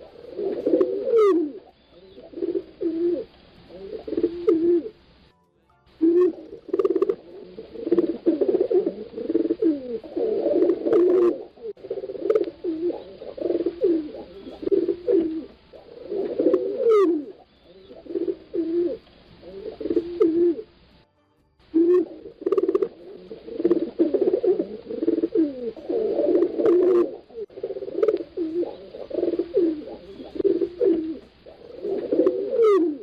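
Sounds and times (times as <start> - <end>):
pigeons cooing: 0.0 - 5.1, 6.0 - 20.9, 21.7 - 33.0.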